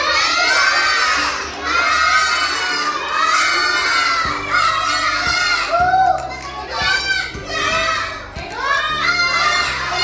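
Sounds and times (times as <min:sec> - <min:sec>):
children calling out in chorus: 0:00.0 - 0:10.0.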